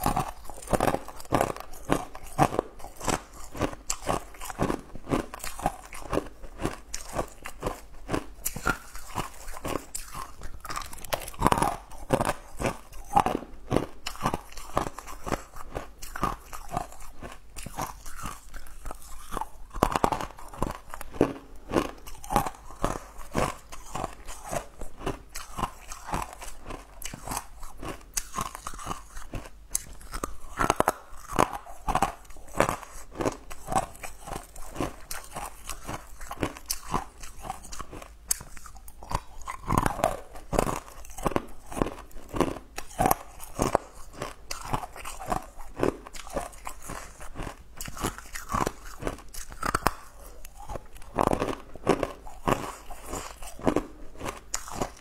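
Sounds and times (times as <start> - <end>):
crunching jelly candy: 0.0 - 55.0.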